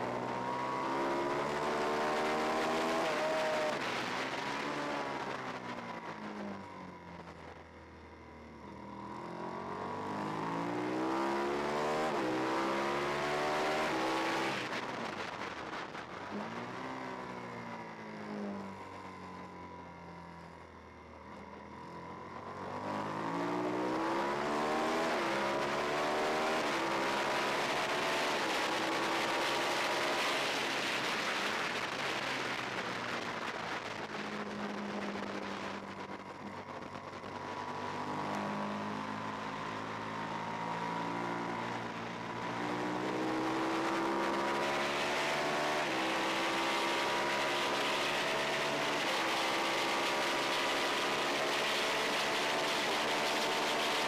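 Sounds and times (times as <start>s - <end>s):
motorcycle engine at full throttle: 0.0s - 54.0s.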